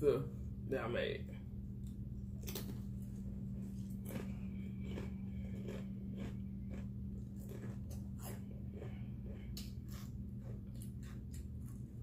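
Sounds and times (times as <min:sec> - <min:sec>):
low electrical hum: 0:00.0 - 0:12.0
chewing crunchy chips: 0:01.8 - 0:12.0.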